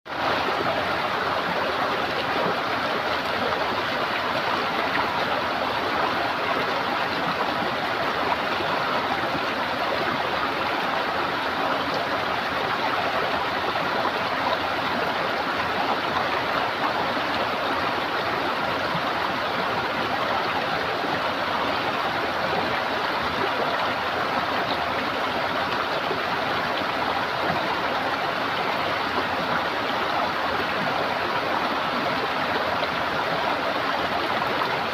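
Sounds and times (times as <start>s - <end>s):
stream water gurgling: 0.1s - 34.9s.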